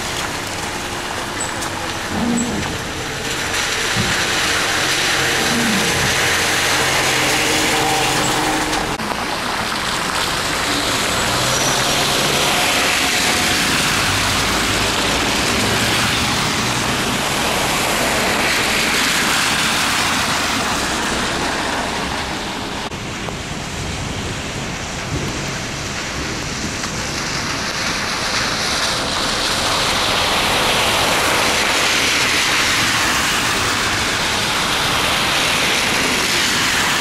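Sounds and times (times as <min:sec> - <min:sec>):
heavy rain: 0:00.0 - 0:37.0
tyres swishing through water: 0:00.0 - 0:37.0.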